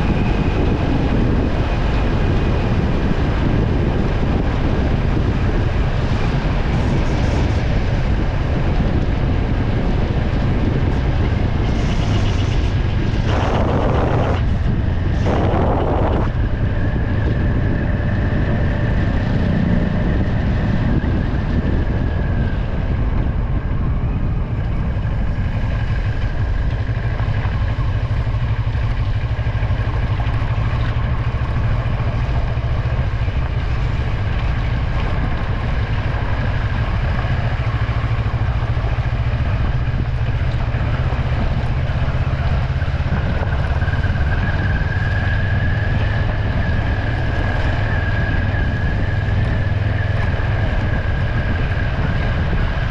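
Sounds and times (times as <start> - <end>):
engine and road rumble: 0.0 - 52.9.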